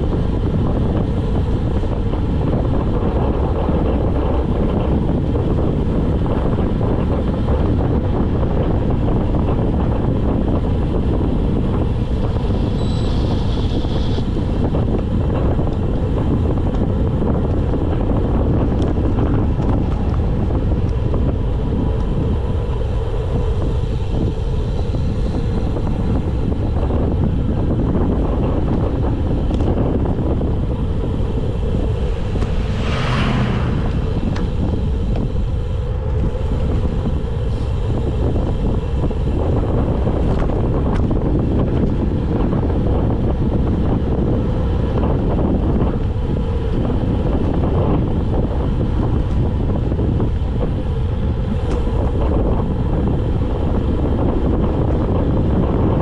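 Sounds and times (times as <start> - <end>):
bicycle tyre road noise: 0.0 - 56.0
wind on microphone: 0.0 - 56.0.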